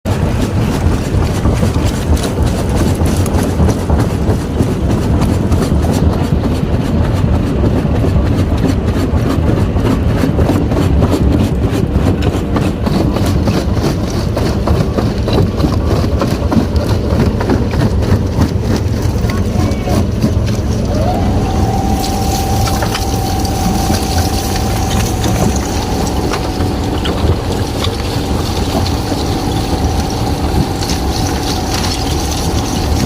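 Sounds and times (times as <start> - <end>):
deep engine rumble: 0.0 - 33.0
rapid machinery clattering: 0.0 - 33.0.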